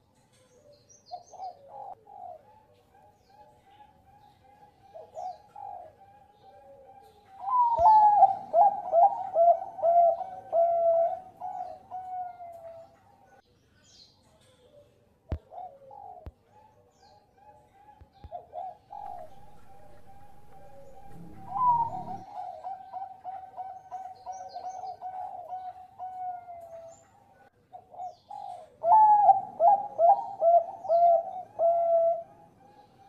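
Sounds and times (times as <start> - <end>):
dove cooing: 0.6 - 13.0, 15.3 - 27.0, 27.7 - 33.0.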